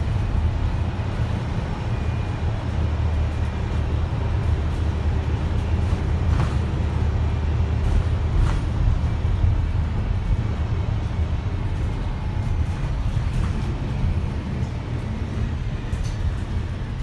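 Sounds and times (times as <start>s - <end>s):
bus diesel engine drone: 0.0s - 17.0s
road and tyre noise: 0.0s - 17.0s.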